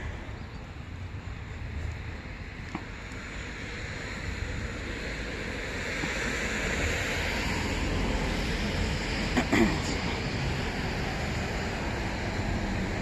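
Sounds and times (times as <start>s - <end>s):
low wind rumble: 0.0s - 13.0s
tyres hissing on wet road: 1.4s - 13.0s.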